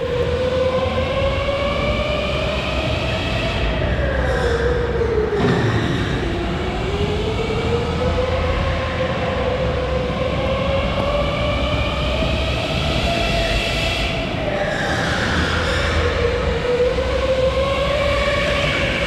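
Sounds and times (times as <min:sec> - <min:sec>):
tyres rumbling on track: 0:00.0 - 0:19.0.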